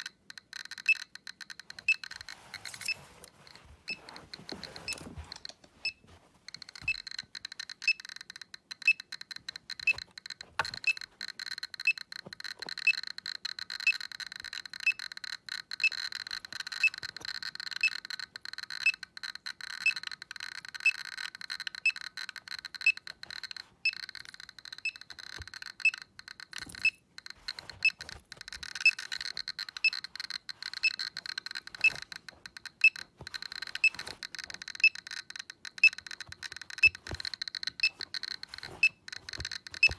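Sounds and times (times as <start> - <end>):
geiger counter clicking: 0.0 - 4.0, 4.6 - 39.9.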